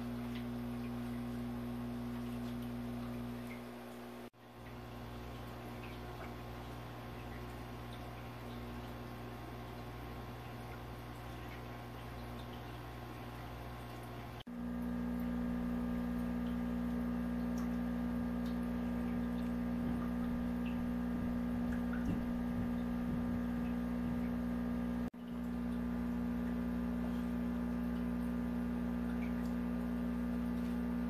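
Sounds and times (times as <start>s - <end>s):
aquarium pump humming: 0.0s - 31.0s.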